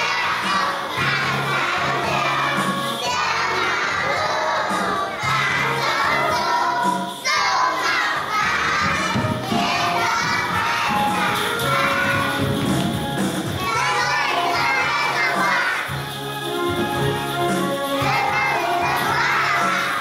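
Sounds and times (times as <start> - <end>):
children chanting nursery rhyme: 0.0 - 12.9, 13.5 - 16.0, 17.8 - 20.0
backing music: 0.0 - 20.0.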